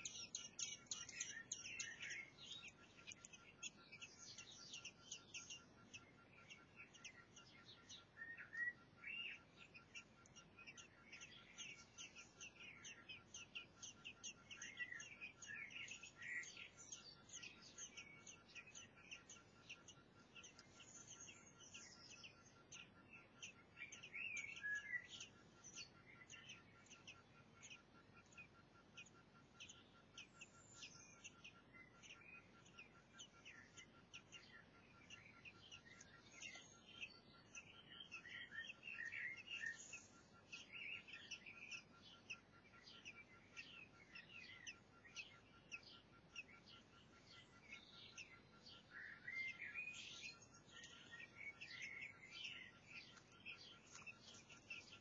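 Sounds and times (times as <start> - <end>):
nestlings chirping: 0.0 - 55.0.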